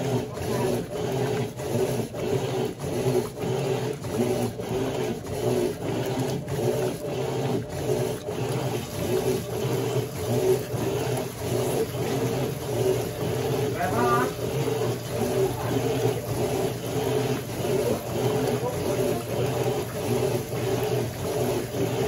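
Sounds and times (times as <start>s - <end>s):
agitator swishing: 0.0s - 22.0s
washing machine motor hum: 0.0s - 22.0s
water sloshing: 0.0s - 22.0s.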